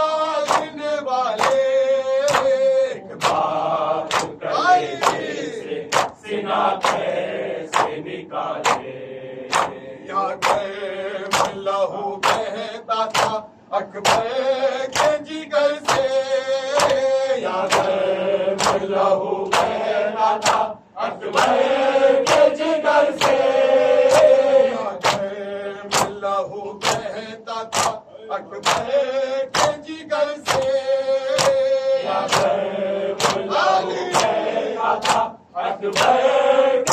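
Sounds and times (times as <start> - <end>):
men chanting in unison: 0.0 - 36.9.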